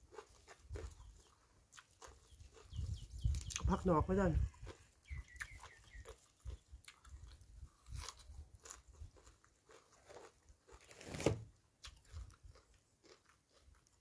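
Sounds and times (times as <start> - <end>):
chewing crisp greens: 0.0 - 14.0.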